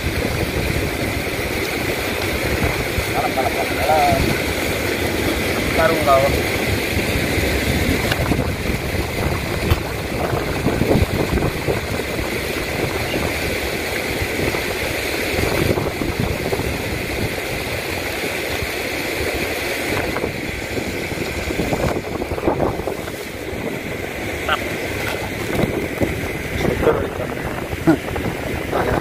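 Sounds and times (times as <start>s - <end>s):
falling water rushing: 0.0s - 29.0s
wind gusting on microphone: 0.0s - 29.0s.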